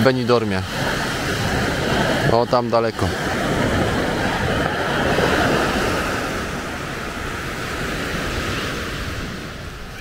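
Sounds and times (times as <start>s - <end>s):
small waves washing onto sand: 0.0s - 10.0s
wind on the microphone: 0.0s - 10.0s.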